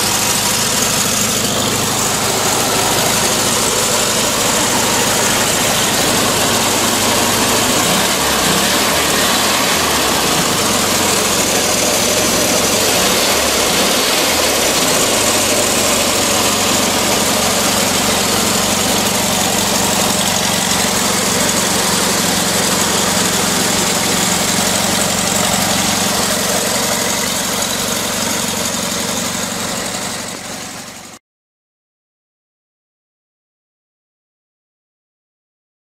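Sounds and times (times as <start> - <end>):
van engine idling: 0.0 - 31.2.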